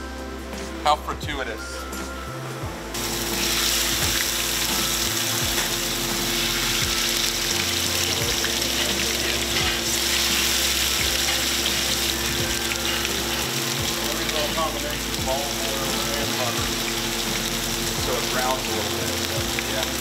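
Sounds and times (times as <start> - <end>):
fish sizzling in hot oil: 3.0 - 20.0.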